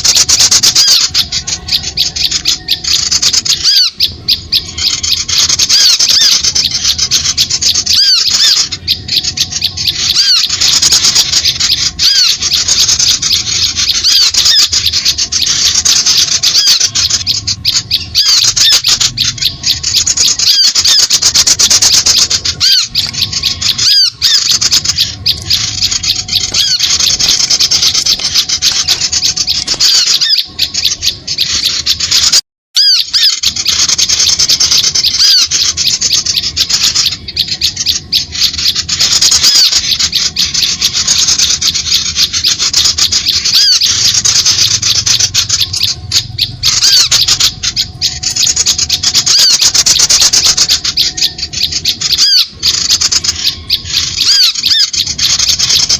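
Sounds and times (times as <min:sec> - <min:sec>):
small birds chattering: 0:00.0 - 0:55.9.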